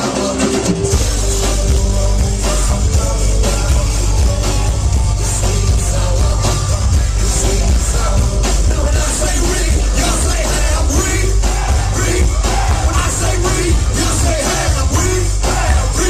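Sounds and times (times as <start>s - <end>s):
bass guitar: 0.0s - 16.0s
drums: 0.0s - 16.0s.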